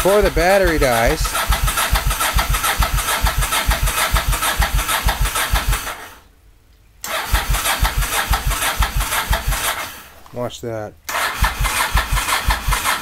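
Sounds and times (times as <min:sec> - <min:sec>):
motorcycle engine cranking: 0:00.0 - 0:06.2, 0:07.0 - 0:10.1, 0:11.1 - 0:13.0.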